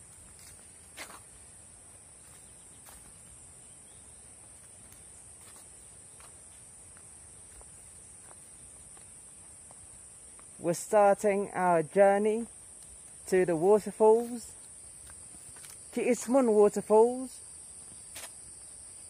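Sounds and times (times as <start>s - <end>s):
forest insects droning: 0.0s - 19.0s.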